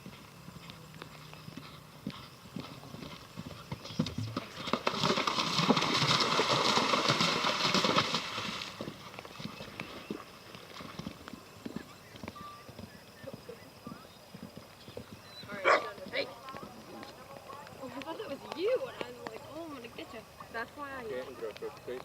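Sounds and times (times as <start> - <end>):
horse galloping hoofbeats: 0.0 - 22.0.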